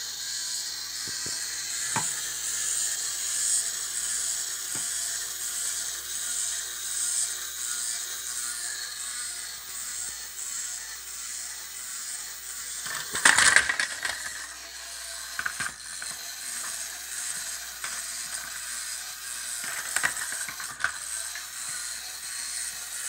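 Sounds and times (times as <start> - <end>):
small electric motor whirring: 0.0 - 23.0.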